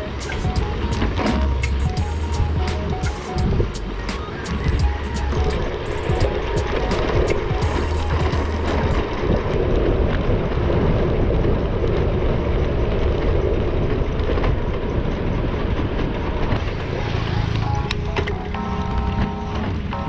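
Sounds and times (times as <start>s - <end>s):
bicycle road noise: 3.3s - 20.0s.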